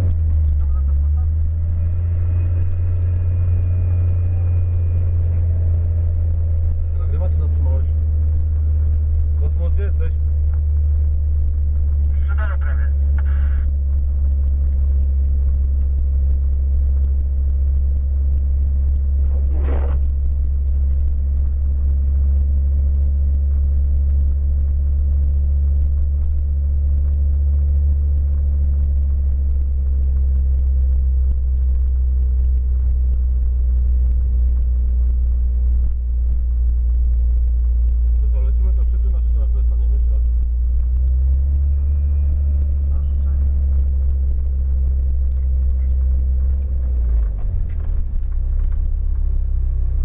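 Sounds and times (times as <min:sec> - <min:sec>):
car engine drone and road noise: 0:00.0 - 0:50.0.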